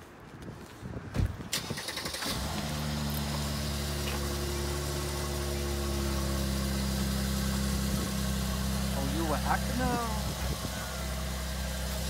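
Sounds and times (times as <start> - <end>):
car engine cranking and idling: 1.5 - 12.0.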